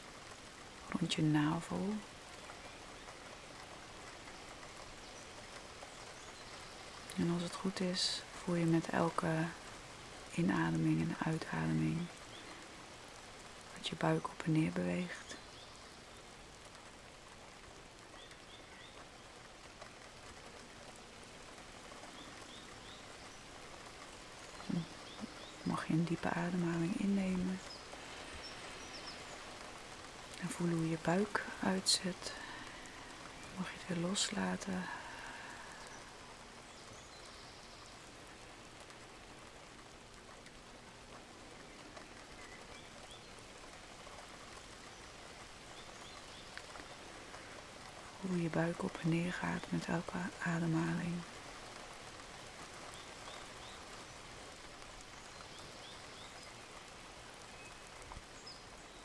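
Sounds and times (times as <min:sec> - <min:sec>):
soft steady rain: 0:00.0 - 0:59.0.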